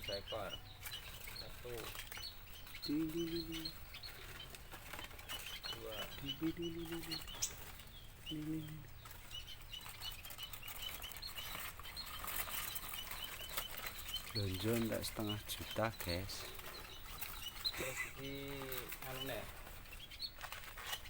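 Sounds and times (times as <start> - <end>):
small birds chirping: 0.0 - 21.0
wings fluttering: 0.0 - 21.0.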